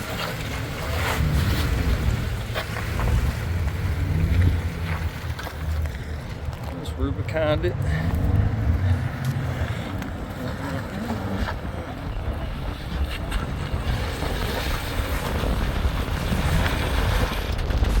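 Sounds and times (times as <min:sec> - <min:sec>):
vehicle engine rumbling: 0:00.0 - 0:18.0
wind buffeting microphone: 0:00.0 - 0:18.0.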